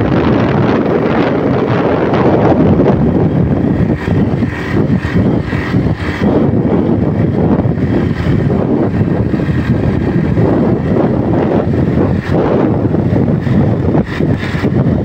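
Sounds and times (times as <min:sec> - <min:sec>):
motorcycle engine droning: 0:00.0 - 0:15.0
wind buffeting microphone: 0:00.0 - 0:15.0.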